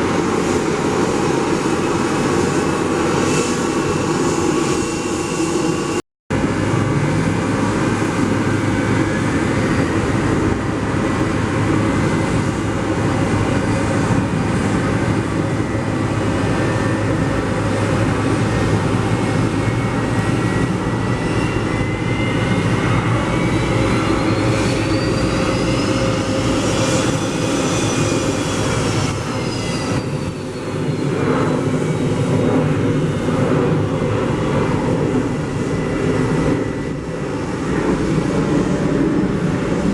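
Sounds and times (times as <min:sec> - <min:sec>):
high engine whine: 0:00.0 - 0:39.9
jet engines running: 0:00.0 - 0:39.9.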